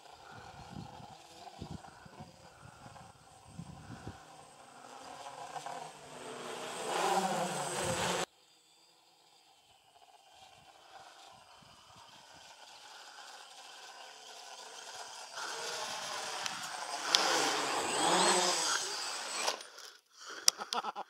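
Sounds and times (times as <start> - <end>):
quadcopter propellers whirring: 0.0 - 19.9.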